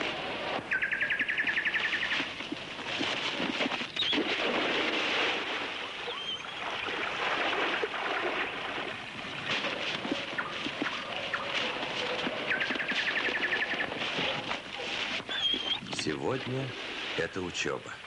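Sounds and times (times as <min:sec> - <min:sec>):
dog splashing through water: 0:00.7 - 0:17.3.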